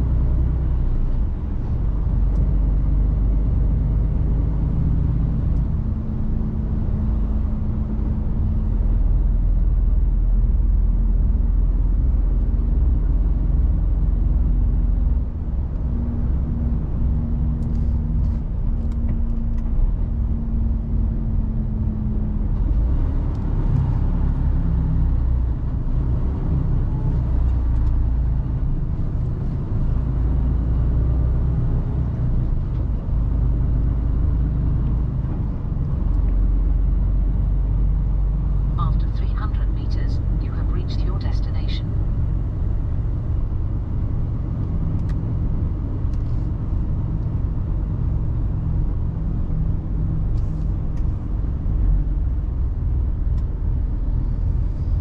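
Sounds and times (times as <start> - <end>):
road rumble: 0.0 - 55.0
truck engine drone: 0.0 - 55.0.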